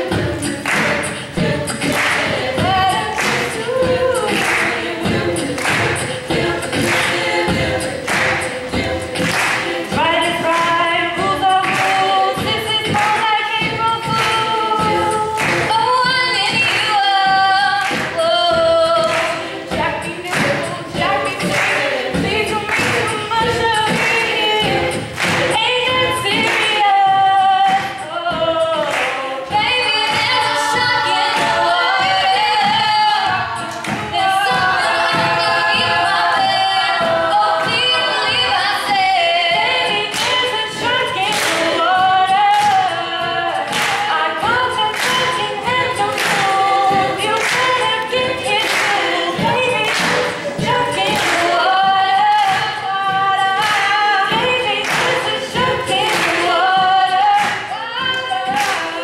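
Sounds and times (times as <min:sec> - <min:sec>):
steady percussive beat: 0:00.0 - 0:59.0
women singing a cappella harmony: 0:00.0 - 0:59.0.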